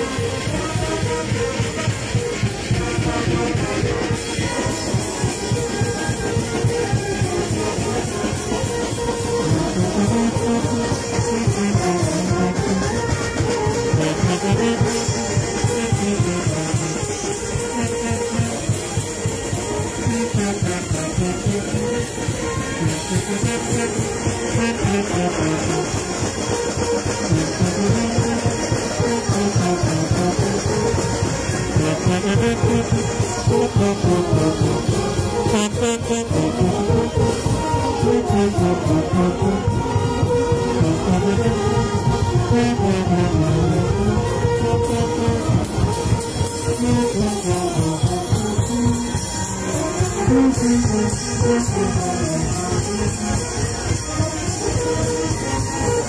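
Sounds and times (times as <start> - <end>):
brass band playing: 0.0 - 56.0
fast percussion beat: 0.0 - 56.0.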